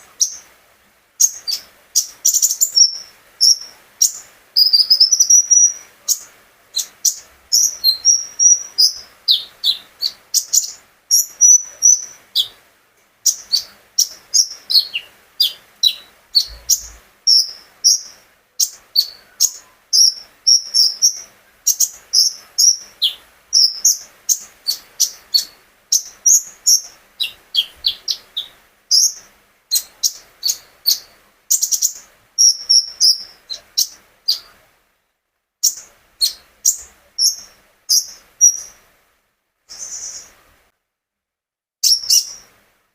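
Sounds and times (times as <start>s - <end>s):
songbird chirping and whistling: 0.0s - 0.5s, 1.2s - 12.6s, 13.2s - 34.6s, 35.6s - 38.8s, 39.7s - 40.4s, 41.8s - 42.5s.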